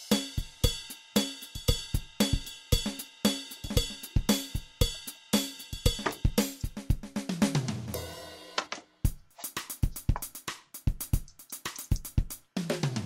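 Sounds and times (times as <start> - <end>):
drum kit beat with cymbals: 0.0 - 13.0.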